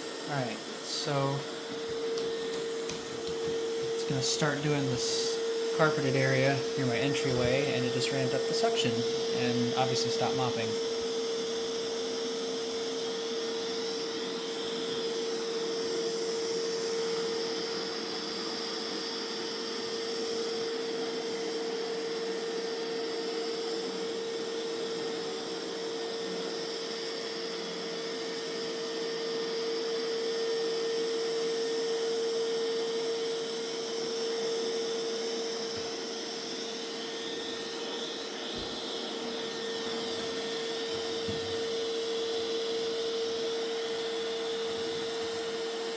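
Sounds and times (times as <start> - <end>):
robot vacuum whirring on carpet: 0.0 - 45.9.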